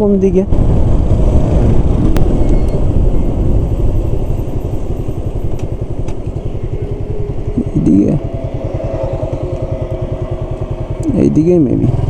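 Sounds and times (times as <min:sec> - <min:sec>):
motorcycle engine rumbling: 0:00.5 - 0:12.0.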